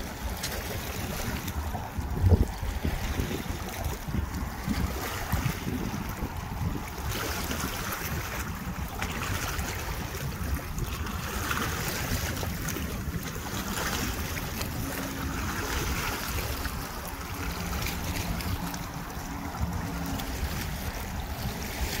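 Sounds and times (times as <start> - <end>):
small waves splashing over rocks: 0.0 - 22.0
wind buffeting microphone: 0.0 - 22.0.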